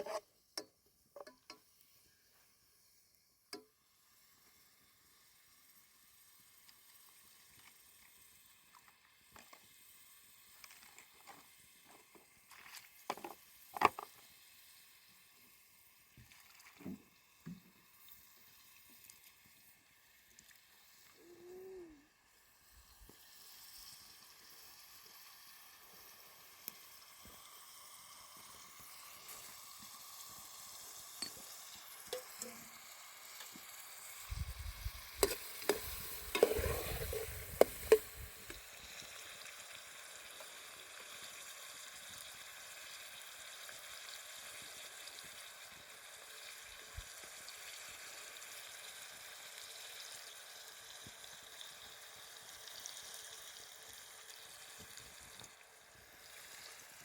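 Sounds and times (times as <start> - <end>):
faint sizzling hiss: 0.0 - 57.0.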